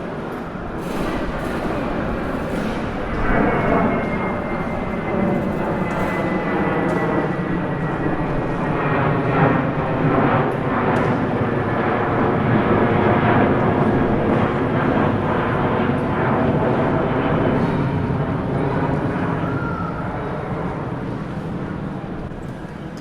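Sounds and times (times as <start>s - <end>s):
airliner engines roaring: 0.0s - 23.0s.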